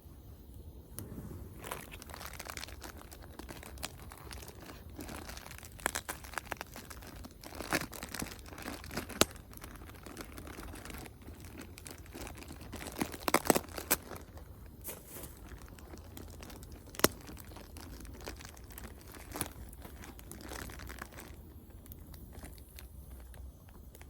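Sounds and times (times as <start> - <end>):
low hiss of fire: 0.0 - 12.4, 13.2 - 24.0
bonfire crackling: 0.1 - 24.0.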